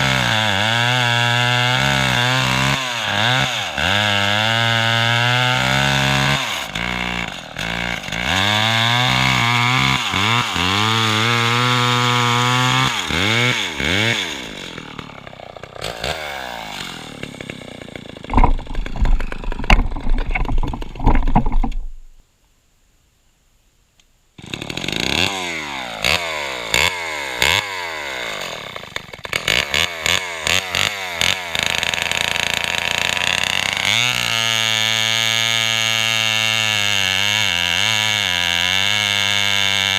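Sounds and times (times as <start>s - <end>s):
chainsaw revving: 0.0s - 22.1s, 24.4s - 39.9s.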